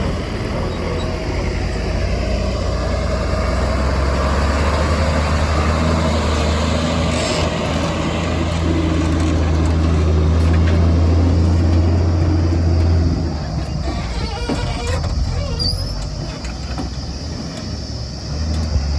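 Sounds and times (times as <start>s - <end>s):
heavy diesel engine droning: 0.0s - 18.9s.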